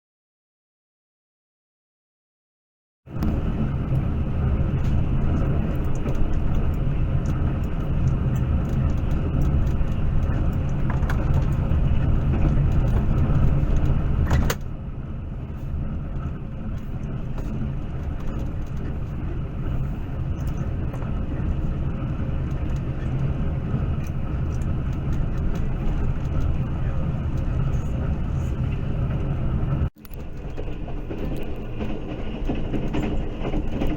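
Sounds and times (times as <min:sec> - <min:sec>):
train rumbling on track: 0:03.1 - 0:33.9
rattles and clicks: 0:03.2 - 0:14.8, 0:15.4 - 0:33.9.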